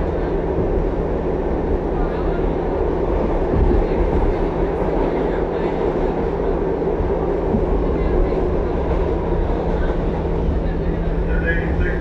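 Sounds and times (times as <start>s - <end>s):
subway wheels rumbling on rail: 0.0s - 12.0s.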